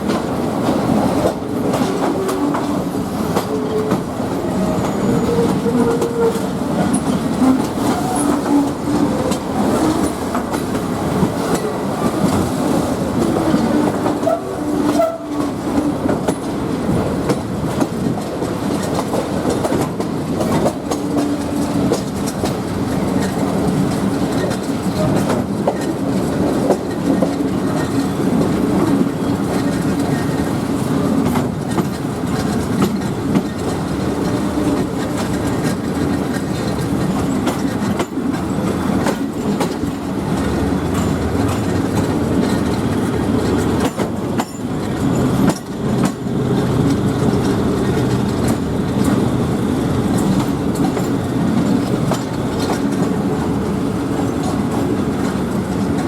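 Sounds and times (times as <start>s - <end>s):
train rumbling on rails: 0.0s - 56.0s
wheels clattering over rail joints: 0.0s - 56.0s.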